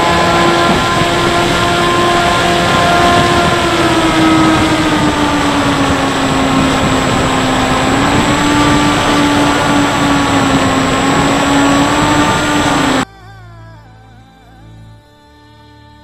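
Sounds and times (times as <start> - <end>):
electric motor propeller whine: 0.0 - 13.0
heavy wind rush: 0.0 - 13.0.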